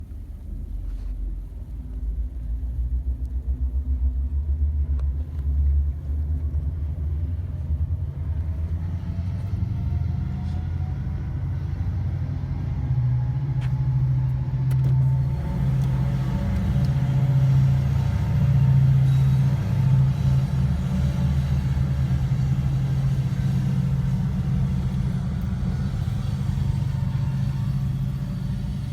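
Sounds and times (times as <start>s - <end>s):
diesel locomotive rumbling: 0.0s - 28.9s.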